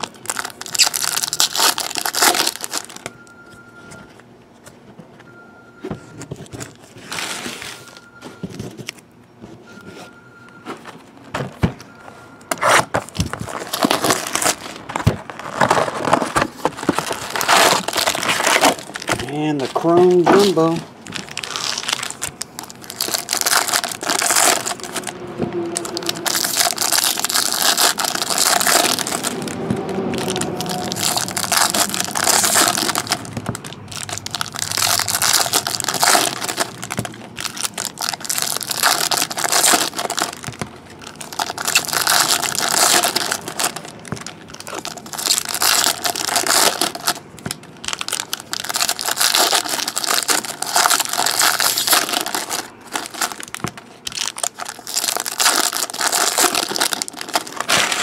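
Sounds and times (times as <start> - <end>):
foil packs tearing and crinkling: 0.0 - 3.1, 12.5 - 58.0.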